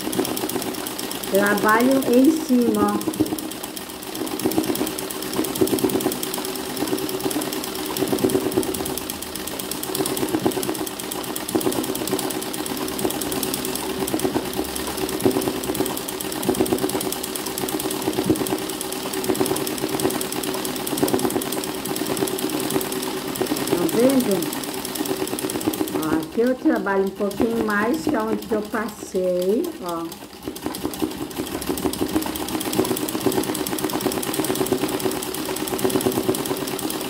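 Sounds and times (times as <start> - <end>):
sewing machine stitching: 0.0 - 37.0.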